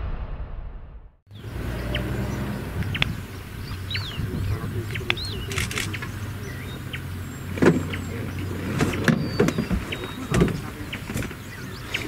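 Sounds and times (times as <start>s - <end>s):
bird chirps: 1.3s - 12.0s
low engine hum: 1.3s - 12.0s.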